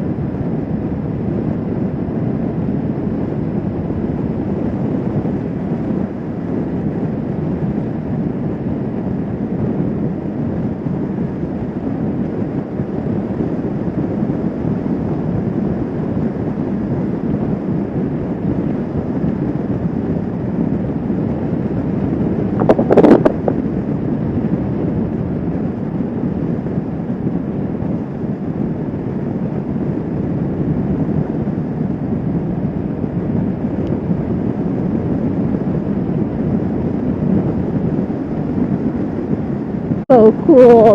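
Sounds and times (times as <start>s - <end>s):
wind rushing on microphone: 0.0s - 40.9s.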